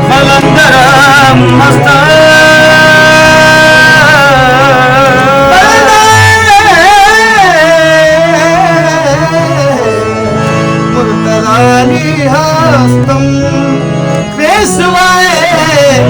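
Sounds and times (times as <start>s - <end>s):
person singing long wavering notes: 0.0s - 13.8s
instrumental accompaniment: 0.0s - 16.0s.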